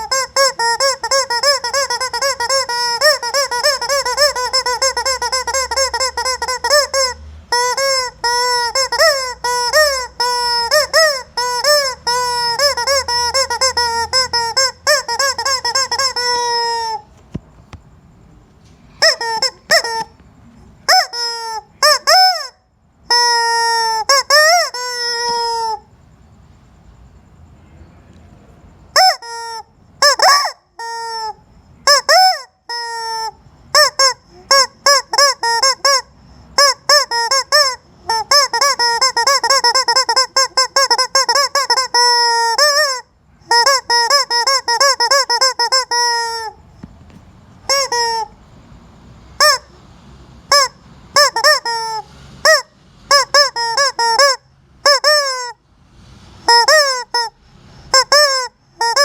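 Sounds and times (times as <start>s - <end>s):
rubber chicken toy squealing: 0.0s - 17.4s, 18.9s - 20.2s, 20.8s - 25.9s, 28.9s - 48.4s, 49.4s - 49.8s, 50.5s - 55.6s, 56.4s - 59.0s.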